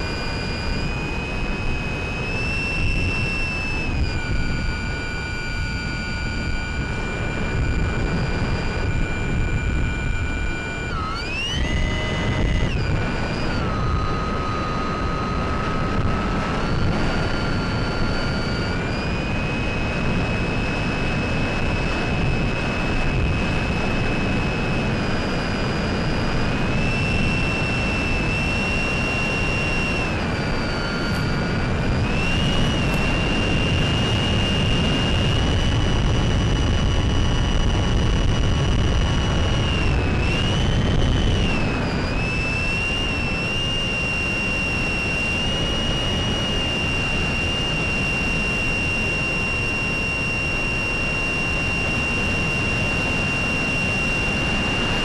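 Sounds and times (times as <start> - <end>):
electric motor whine: 0.0 - 55.0
propeller rush of noise: 0.0 - 55.0.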